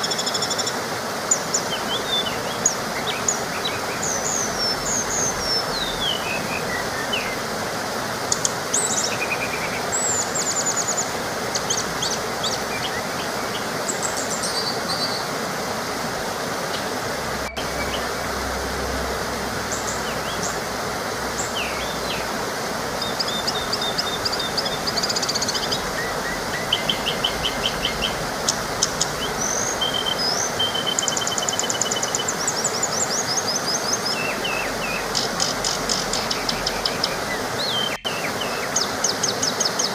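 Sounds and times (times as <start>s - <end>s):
birds chirping and trilling: 0.0s - 7.6s, 8.2s - 15.4s, 16.6s - 19.0s, 19.6s - 39.9s
small waterfall rushing: 0.0s - 39.9s.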